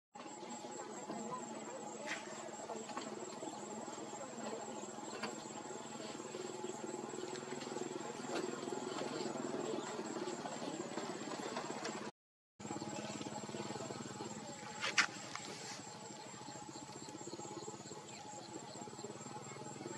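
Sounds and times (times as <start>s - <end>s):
crickets trilling: 0.2s - 11.7s, 12.6s - 19.9s.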